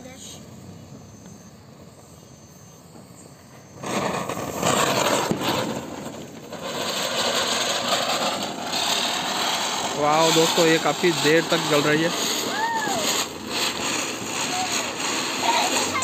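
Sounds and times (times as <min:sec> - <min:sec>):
ground spinner firework hissing: 0:00.0 - 0:16.0.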